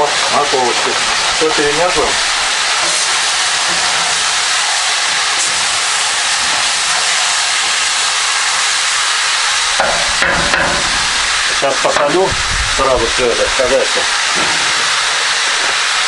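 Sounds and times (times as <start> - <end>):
food frying in oil: 0.0 - 16.0.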